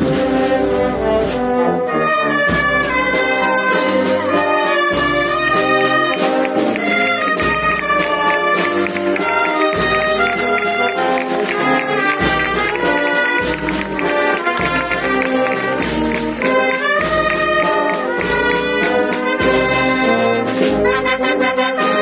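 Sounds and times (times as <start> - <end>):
brass band playing a march: 0.0 - 22.0.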